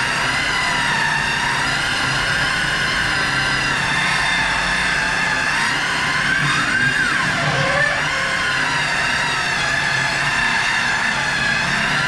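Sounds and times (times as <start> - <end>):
circular saw cutting wood: 0.0 - 12.0.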